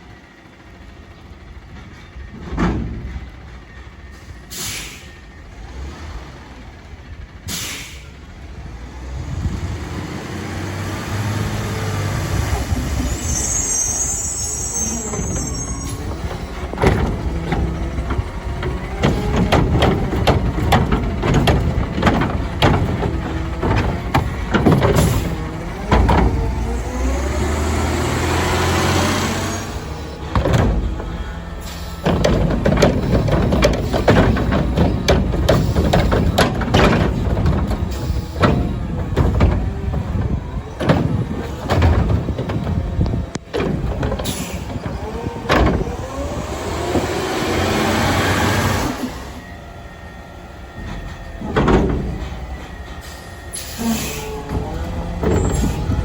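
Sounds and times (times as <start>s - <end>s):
garbage truck engine revving: 0.2s - 56.0s
bins banging and clanking: 1.8s - 3.9s, 9.9s - 56.0s.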